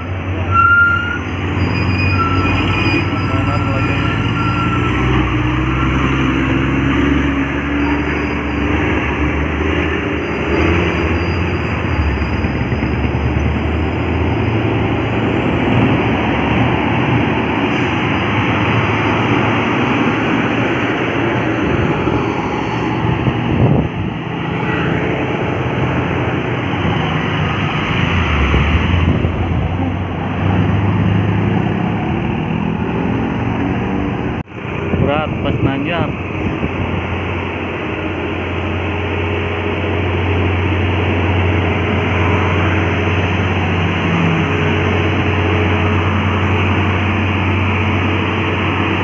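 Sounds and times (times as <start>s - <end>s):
road traffic noise: 0.0s - 49.0s
truck diesel engine labouring: 0.0s - 49.0s.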